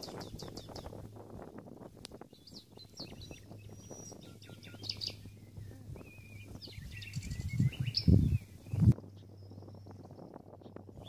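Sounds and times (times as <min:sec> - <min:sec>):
songbirds chirping and trilling: 0:00.0 - 0:11.0.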